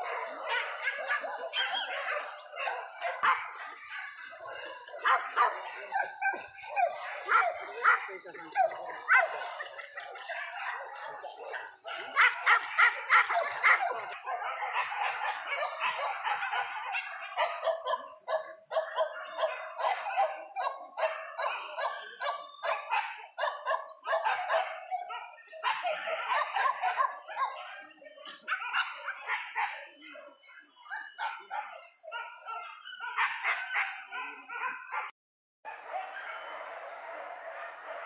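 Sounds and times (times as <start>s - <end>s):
dogs baying: 0.0s - 35.1s
dogs barking and yelping: 0.0s - 38.0s.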